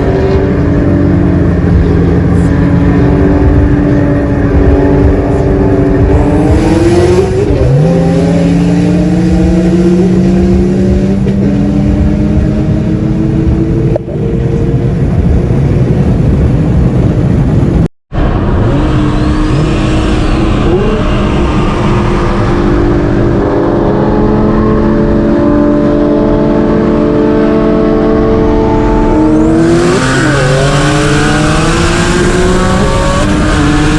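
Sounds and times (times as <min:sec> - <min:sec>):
car engine pulling hard: 0:00.0 - 0:33.9.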